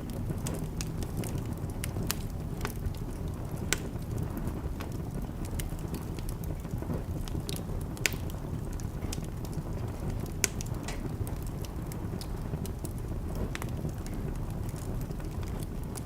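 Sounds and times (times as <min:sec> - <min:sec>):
fire crackling and popping: 0:00.0 - 0:16.0
flames rumbling in fireplace: 0:00.0 - 0:16.0.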